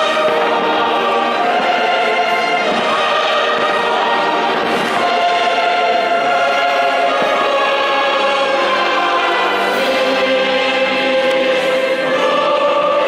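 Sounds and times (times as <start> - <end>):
choir singing sustained notes: 0.0 - 13.0
orchestra: 0.0 - 13.0.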